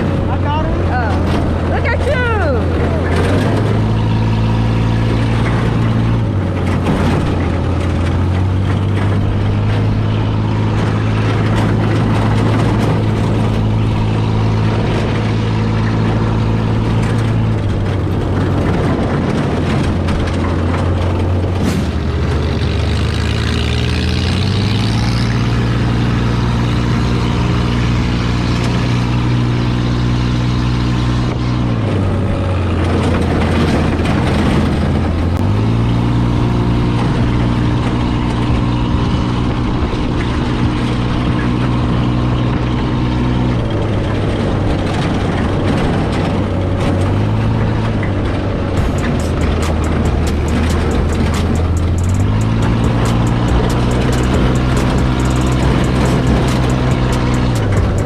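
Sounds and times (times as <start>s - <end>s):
off-road buggy engine running: 0.0s - 58.0s.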